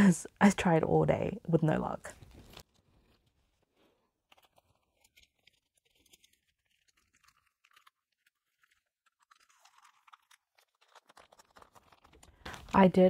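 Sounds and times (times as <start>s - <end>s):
plastic sleeves clicking and rustling: 2.2s - 13.0s.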